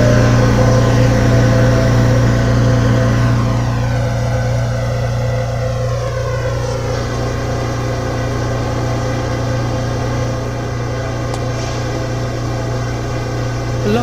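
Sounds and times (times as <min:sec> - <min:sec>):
steady hum of train motors: 0:00.0 - 0:14.0
subway traction motors whining down: 0:00.0 - 0:14.0.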